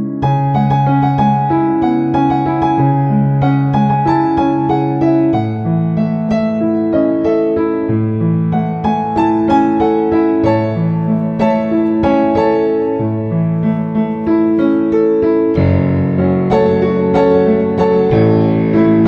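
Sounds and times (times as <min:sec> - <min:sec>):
gentle solo piano piece: 0:00.0 - 0:19.0.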